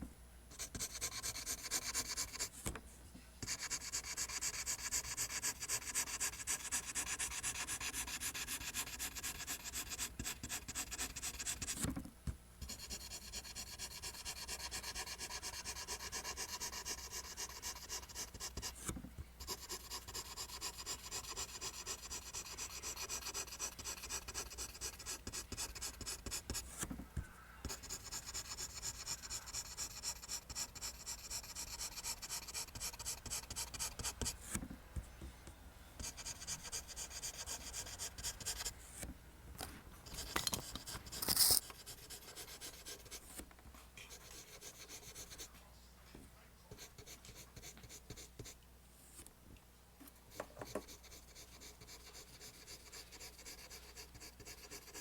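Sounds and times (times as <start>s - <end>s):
pencil scratching on paper: 0.5s - 2.5s, 3.4s - 11.9s, 12.6s - 26.9s, 27.6s - 34.6s, 36.0s - 38.7s, 40.1s - 43.4s, 44.0s - 45.5s, 46.7s - 48.6s, 50.3s - 55.0s.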